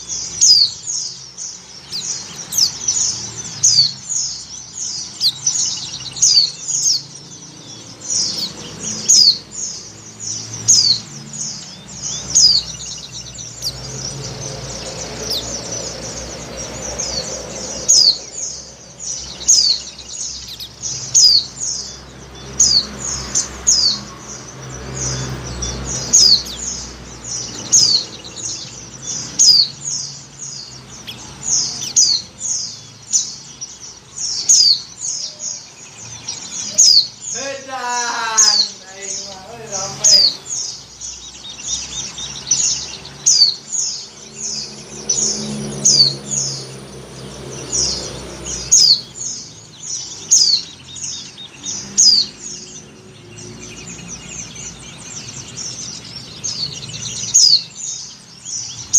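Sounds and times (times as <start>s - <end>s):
bird chirping: 0.0s - 58.9s.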